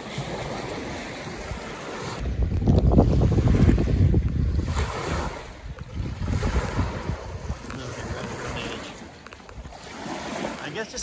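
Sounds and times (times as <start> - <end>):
water washing onto shore: 0.0 - 11.0
wind buffeting microphone: 0.1 - 10.5.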